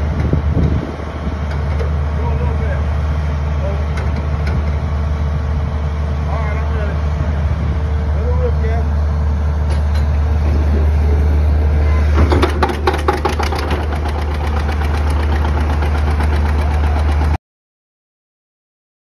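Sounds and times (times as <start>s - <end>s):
low rumble: 0.0s - 17.4s
tractor engine banging and putting: 0.0s - 17.4s.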